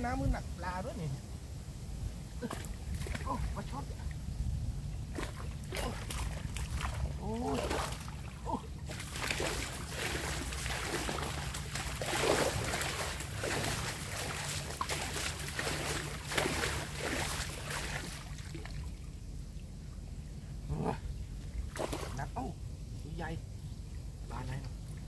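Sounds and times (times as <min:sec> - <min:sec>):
water splashing and streaming: 0:00.3 - 0:25.0.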